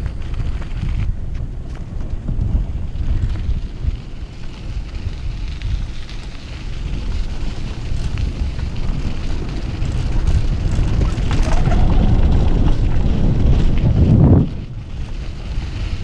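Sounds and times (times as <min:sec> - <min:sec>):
small ticks from ground: 0:00.0 - 0:16.0
wind buffeting microphone: 0:00.0 - 0:16.0.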